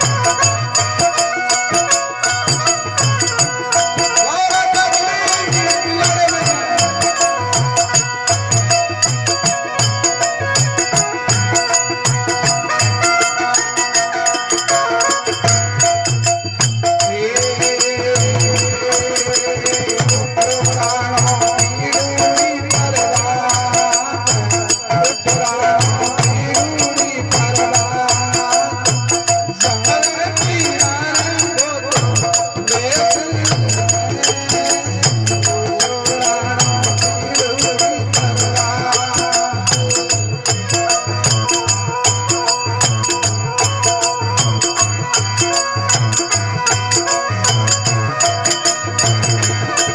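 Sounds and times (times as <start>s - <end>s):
rattling jingle percussion: 0.0s - 49.9s.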